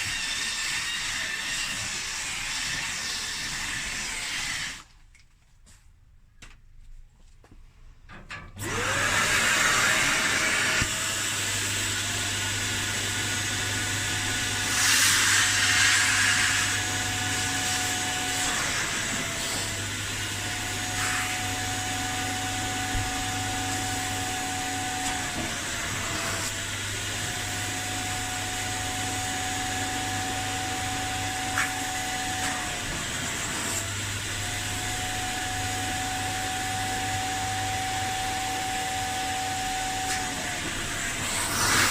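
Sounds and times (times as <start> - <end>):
vacuum motor whining: 8.3 - 41.9.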